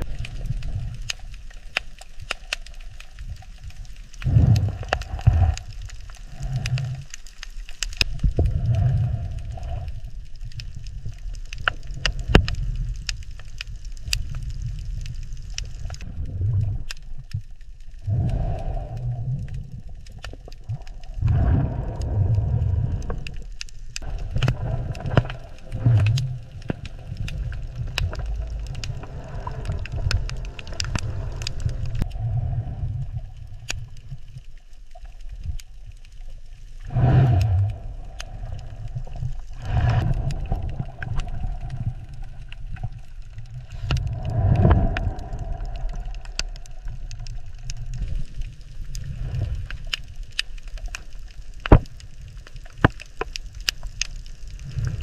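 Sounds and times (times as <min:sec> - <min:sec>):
underwater clicks and crackles: 0:00.0 - 0:55.0
underwater low rumble: 0:00.0 - 0:55.0.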